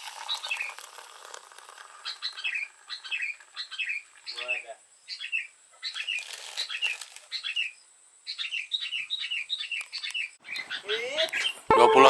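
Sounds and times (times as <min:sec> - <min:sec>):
songbird chirping: 0:02.0 - 0:12.0.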